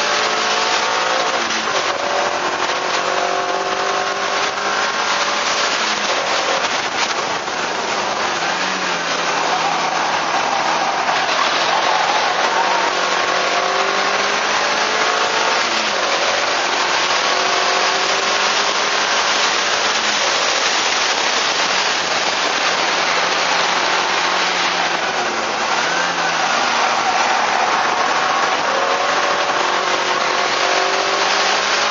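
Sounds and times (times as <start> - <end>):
car engine revving through gears: 0.0 - 31.9
wind and road noise: 0.0 - 31.9.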